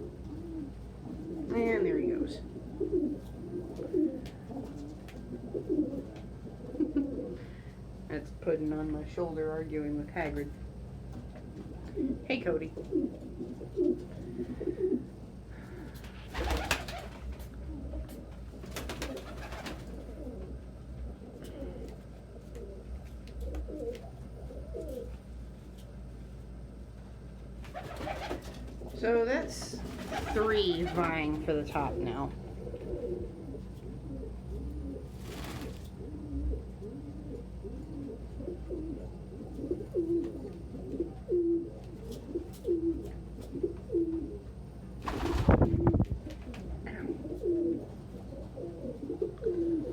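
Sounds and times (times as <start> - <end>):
pigeons cooing: 0.0 - 8.1, 11.3 - 25.4, 27.6 - 49.9.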